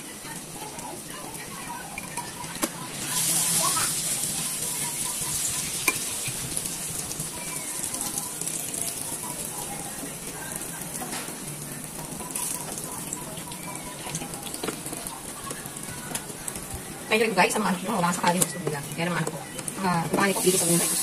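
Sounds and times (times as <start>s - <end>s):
eggplant sizzling in oil: 0.0s - 21.0s.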